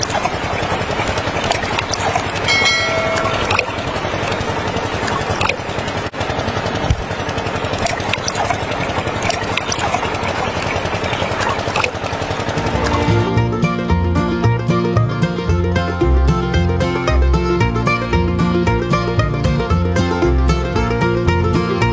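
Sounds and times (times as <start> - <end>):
small diesel engine chugging: 0.0 - 21.9.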